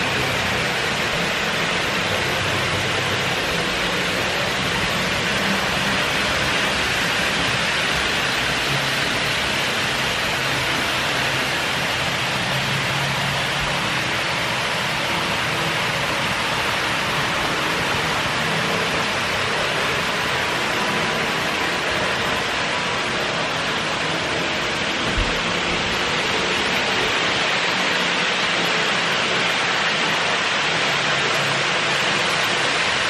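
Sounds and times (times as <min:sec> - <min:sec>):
model trains running on rails: 0:00.0 - 0:33.0.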